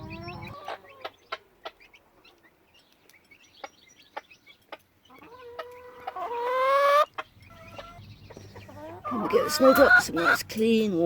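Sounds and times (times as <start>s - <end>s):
chicken calling: 0.0s - 2.4s, 3.6s - 10.6s.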